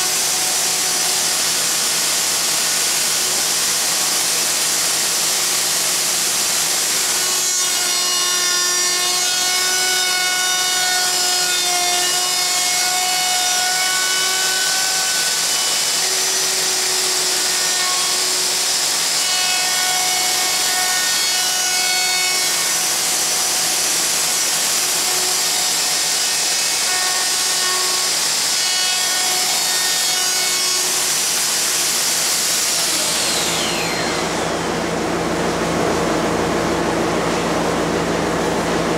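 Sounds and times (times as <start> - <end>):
router cutting wood: 0.0 - 37.5.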